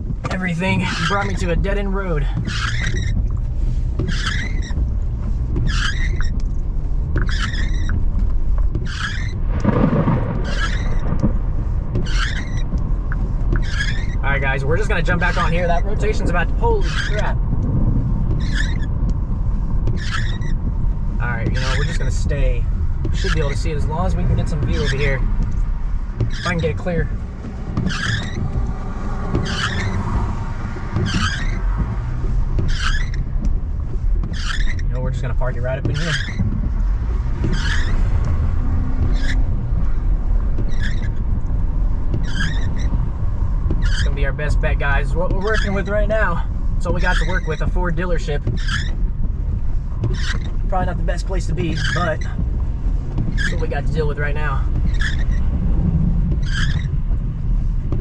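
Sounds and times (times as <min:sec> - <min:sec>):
car cabin road and engine rumble: 0:00.0 - 0:58.0
windshield wipers squeaking: 0:00.0 - 0:58.0.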